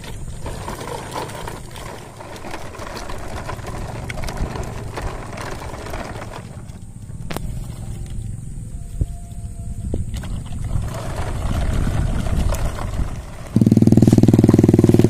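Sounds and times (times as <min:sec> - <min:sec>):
toy trucks rattling over gravel: 0:00.0 - 0:15.0.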